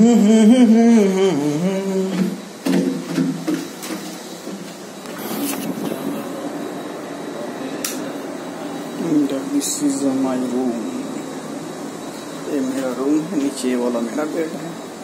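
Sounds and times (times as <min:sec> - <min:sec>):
mechanical ventilation hum: 0:00.0 - 0:15.0.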